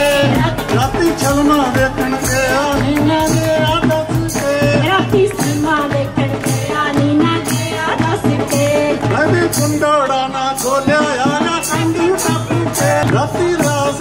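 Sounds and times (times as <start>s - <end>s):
folk song sung into microphone: 0.0s - 14.0s
jingling percussion: 0.0s - 14.0s
steady beat: 0.0s - 14.0s.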